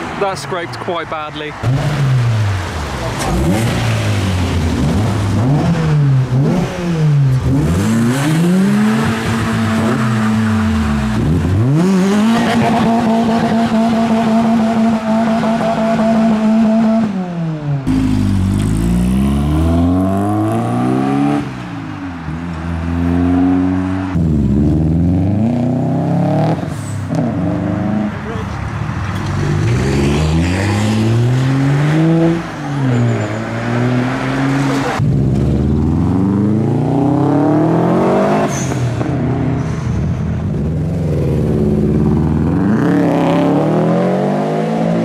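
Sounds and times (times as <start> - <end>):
car engine revving: 1.4 - 28.4, 29.0 - 45.0.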